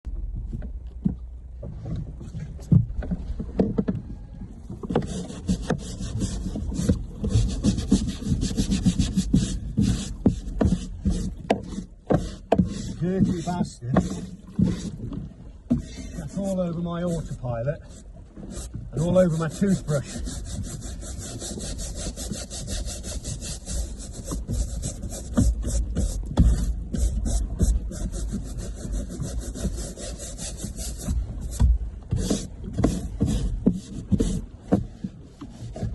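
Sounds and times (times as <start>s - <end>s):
knocks on a boat: 0.1s - 16.5s, 21.6s - 35.9s
scrubbing rasping rub: 4.8s - 35.9s.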